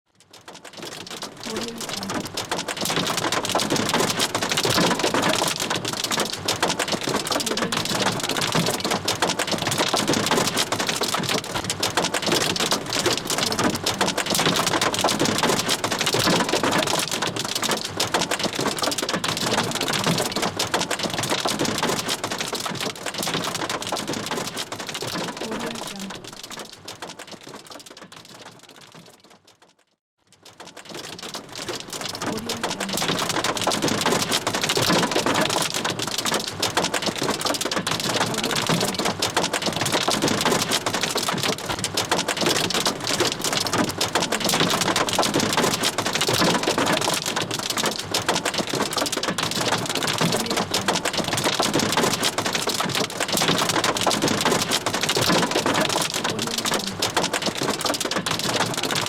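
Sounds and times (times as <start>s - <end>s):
hail drumming on metal roof: 0.2s - 59.0s.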